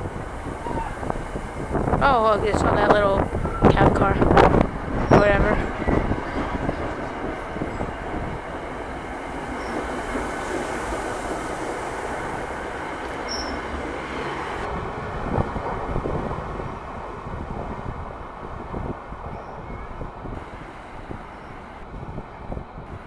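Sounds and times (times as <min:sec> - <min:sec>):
passenger train wheels on rails: 0:00.0 - 0:23.0.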